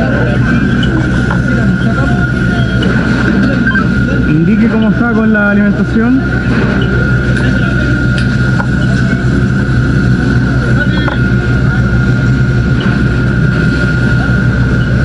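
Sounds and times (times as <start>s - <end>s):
fire engine pump running: 0.0s - 15.0s
thin steady whine: 0.0s - 15.0s.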